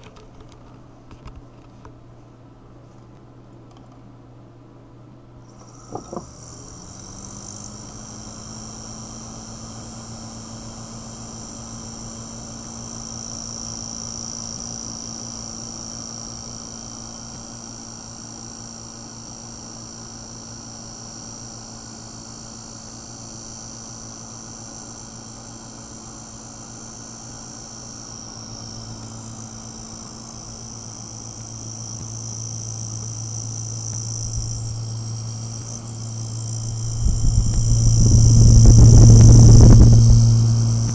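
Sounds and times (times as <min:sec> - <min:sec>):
motor humming with high whine: 0:05.2 - 0:40.9.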